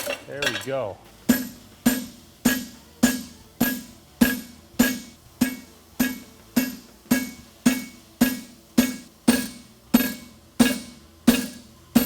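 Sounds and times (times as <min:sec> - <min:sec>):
hammer ringing on anvil: 0:01.3 - 0:12.0.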